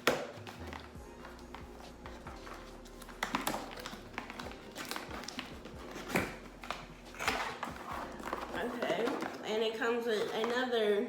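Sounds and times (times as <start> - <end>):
packaging being handled: 0.0 - 10.7.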